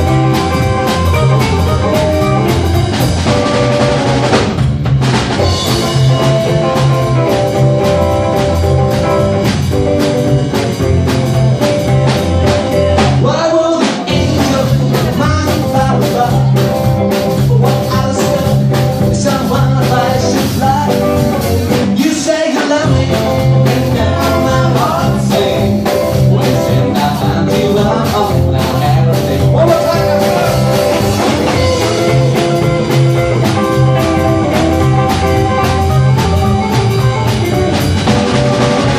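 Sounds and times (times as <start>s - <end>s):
drum kit: 0.0s - 38.9s
electric guitar: 0.0s - 38.9s
upright bass: 0.0s - 38.9s.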